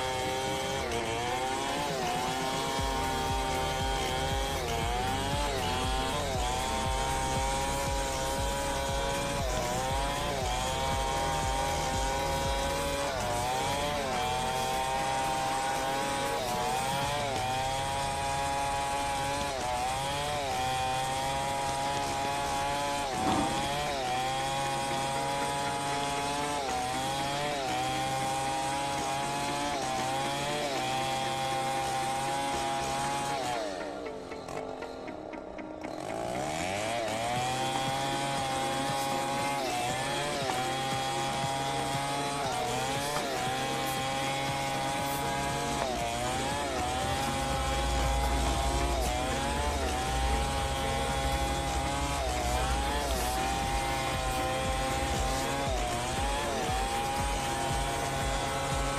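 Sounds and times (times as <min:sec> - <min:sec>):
chainsaw cutting log: 0:00.0 - 0:58.9.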